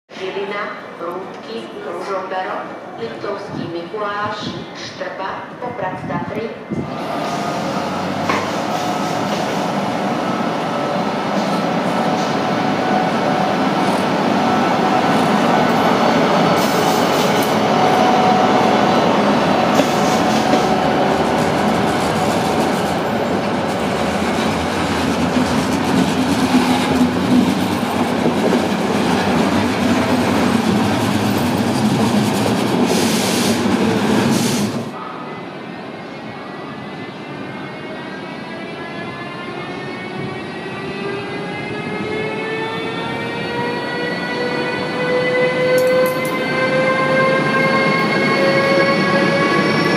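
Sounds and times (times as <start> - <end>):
train wheels rumbling on rail: 6.0 - 35.0, 38.6 - 49.9
electric locomotive whine: 6.6 - 49.9.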